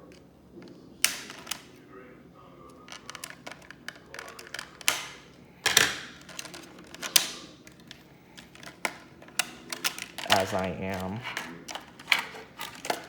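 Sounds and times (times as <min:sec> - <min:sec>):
loud crackling snaps: 0:00.0 - 0:01.9, 0:02.7 - 0:13.0
plastic packaging clicks and crinkles: 0:00.0 - 0:01.9, 0:02.6 - 0:13.0.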